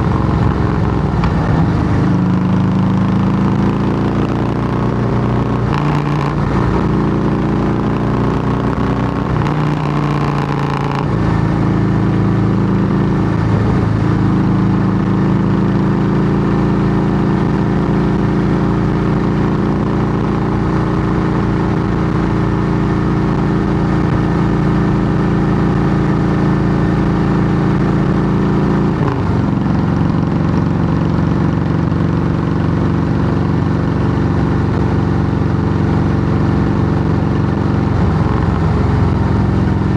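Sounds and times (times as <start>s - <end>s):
loud motorcycle engine running: 0.0s - 39.9s.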